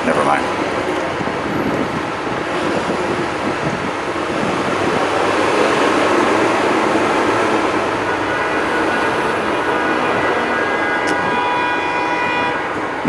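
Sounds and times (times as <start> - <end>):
city street traffic roar: 0.0 - 13.0.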